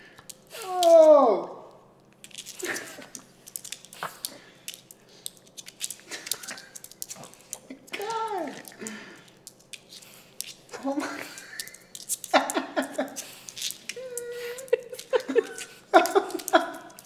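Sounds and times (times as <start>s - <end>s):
claws clicking on wood floor: 2.1s - 17.0s.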